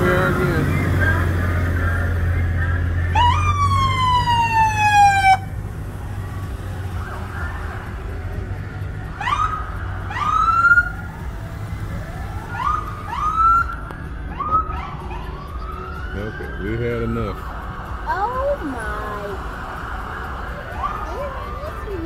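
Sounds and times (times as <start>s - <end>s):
engine hum: 0.0s - 22.0s
fire engine siren: 0.0s - 22.0s
road noise: 0.0s - 22.0s.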